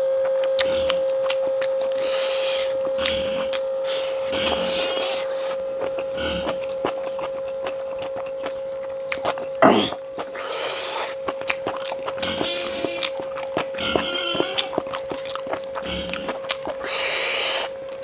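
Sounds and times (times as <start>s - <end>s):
chewing and lip-smacking: 0.0s - 18.0s
faint hum: 0.0s - 18.0s
mouth slurp: 0.3s - 18.0s.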